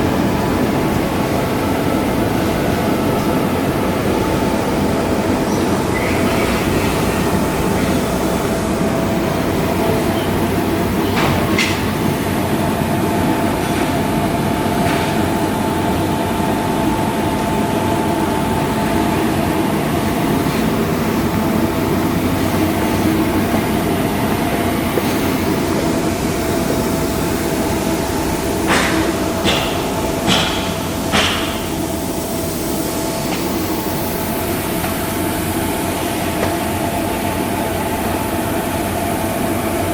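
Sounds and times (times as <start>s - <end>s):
heavy machinery drone and whine: 0.0s - 39.9s.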